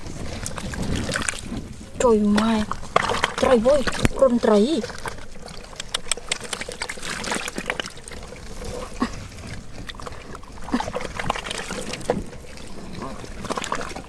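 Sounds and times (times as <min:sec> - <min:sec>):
muddy water trickling: 0:00.0 - 0:14.0
wet squelching in mud: 0:02.3 - 0:14.0.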